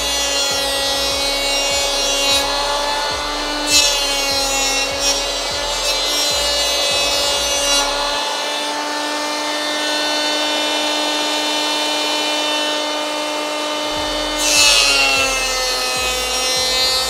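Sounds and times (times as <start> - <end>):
electric planer motor whine: 0.0 - 17.0
planer shaving wood: 0.0 - 17.0.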